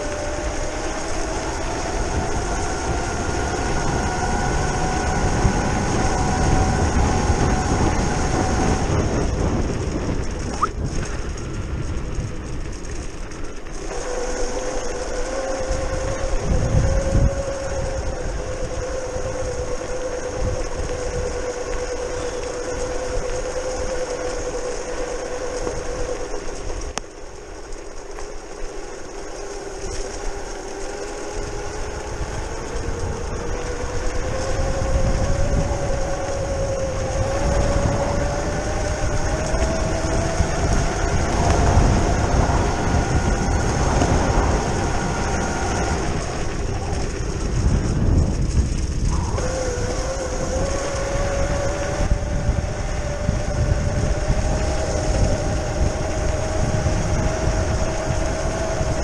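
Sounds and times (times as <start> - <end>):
electric scooter motor whining: 0.0 - 59.0
low rumble: 0.0 - 59.0.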